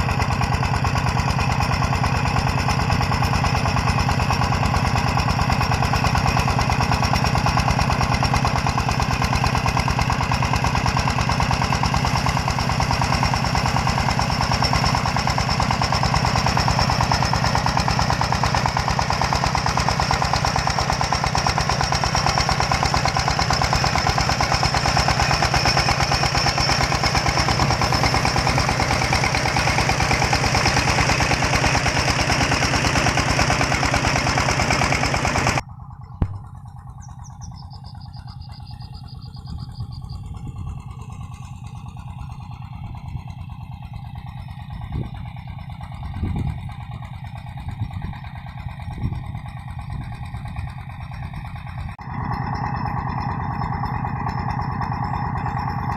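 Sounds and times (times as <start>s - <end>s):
diesel engine chugging: 0.0s - 55.9s.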